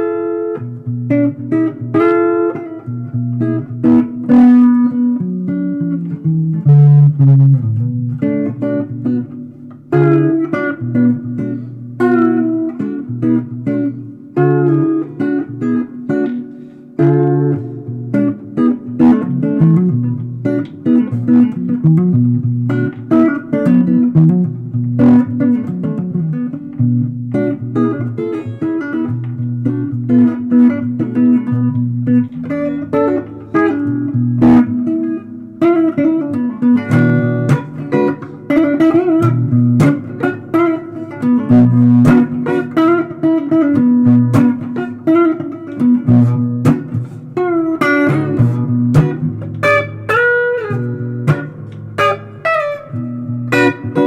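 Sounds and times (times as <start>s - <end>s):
blues guitar improvising: 0.0s - 54.0s.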